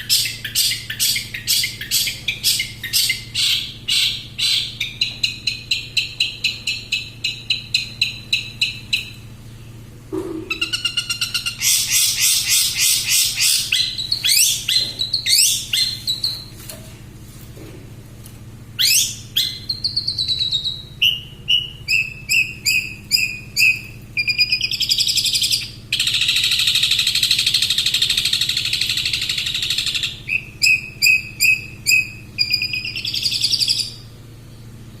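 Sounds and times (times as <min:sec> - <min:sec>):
bird singing varied song: 0:00.0 - 0:09.8, 0:10.5 - 0:16.6, 0:18.8 - 0:34.7.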